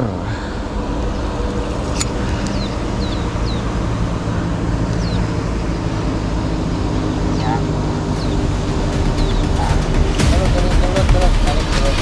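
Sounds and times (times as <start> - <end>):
low mechanical drone: 0.0 - 12.0.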